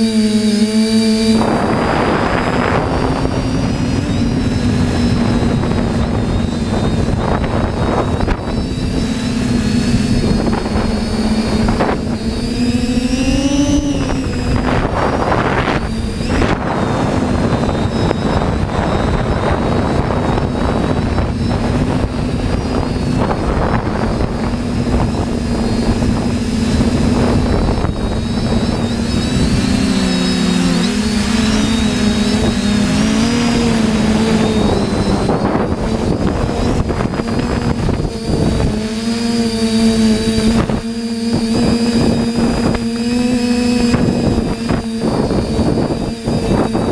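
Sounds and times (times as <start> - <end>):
drone propellers humming: 0.0 - 46.9
wind noise on microphone: 0.0 - 46.9.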